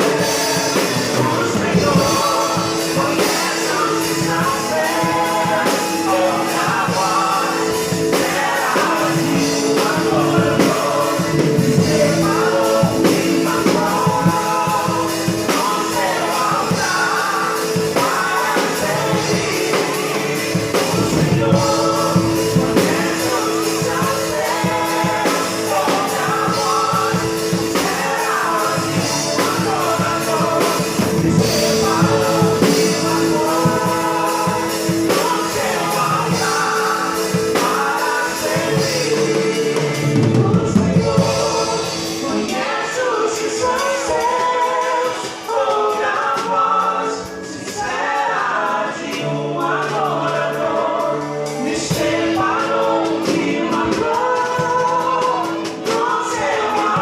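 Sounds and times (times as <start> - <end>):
drum kit: 0.0 - 57.0
live band playing: 0.0 - 57.0
people singing: 0.0 - 57.0.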